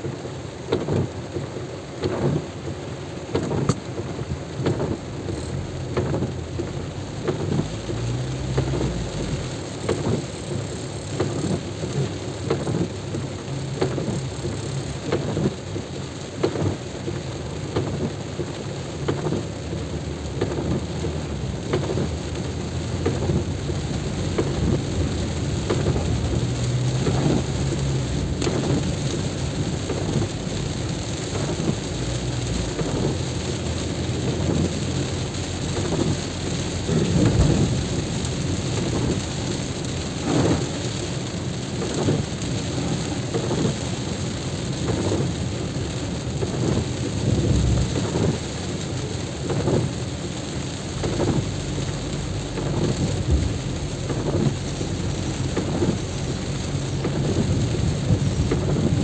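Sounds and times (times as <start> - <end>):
heavy rain hiss: 0.0 - 59.0
raindrops thudding on microphone: 0.0 - 59.0.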